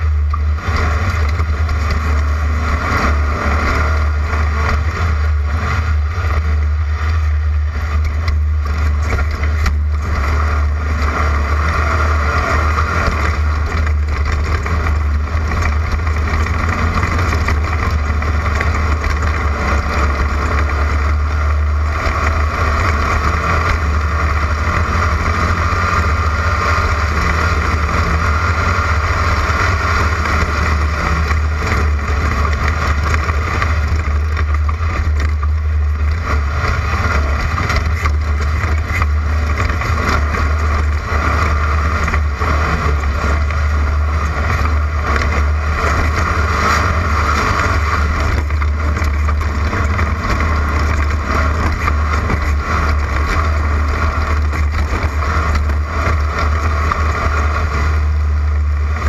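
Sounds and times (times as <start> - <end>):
race car engine droning: 0.0 - 59.0.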